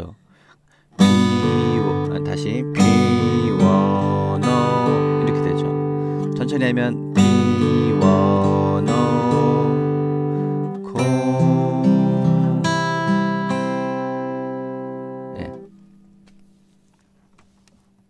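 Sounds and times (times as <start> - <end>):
fingerstyle acoustic guitar: 0.7 - 18.0.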